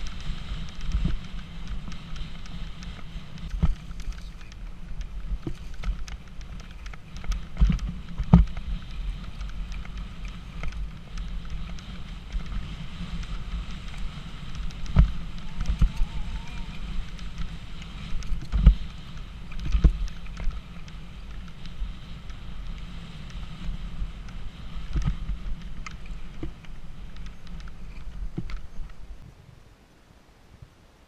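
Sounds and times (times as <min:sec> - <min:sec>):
bike knocks and rattles: 0:00.0 - 0:29.0
tyres rumbling on gravel: 0:00.0 - 0:29.2
wind buffeting microphone: 0:00.0 - 0:29.7.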